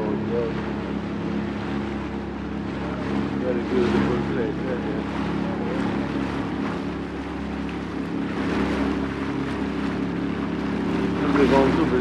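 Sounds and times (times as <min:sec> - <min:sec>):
boat engine running: 0:00.0 - 0:12.0
rushing water: 0:00.0 - 0:12.0
wind: 0:00.0 - 0:12.0.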